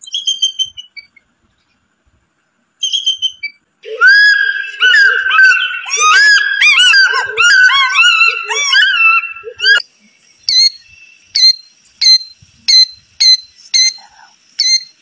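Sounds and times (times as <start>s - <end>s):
eagle whistled calls: 0.0s - 1.2s, 2.8s - 15.0s
killdeer sharp high calls: 0.0s - 1.2s, 2.8s - 9.8s, 10.5s - 14.0s, 14.6s - 15.0s.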